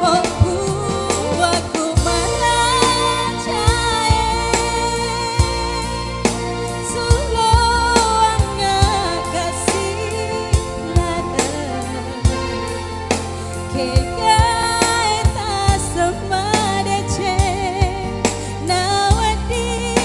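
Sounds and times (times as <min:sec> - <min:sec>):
bass line: 0:00.0 - 0:20.0
person singing: 0:00.0 - 0:20.0.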